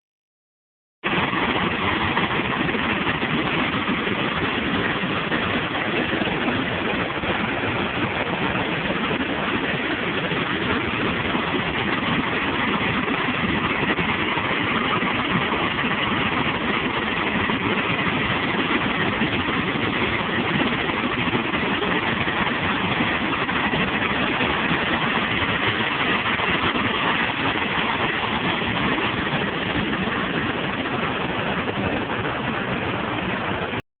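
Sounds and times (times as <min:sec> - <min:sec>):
waterfall rushing: 0:01.0 - 0:33.8.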